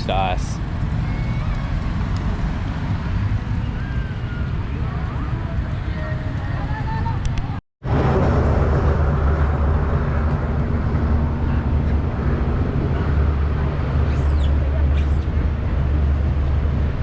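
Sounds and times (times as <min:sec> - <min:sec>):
town street ambience rumble: 0:00.0 - 0:17.0.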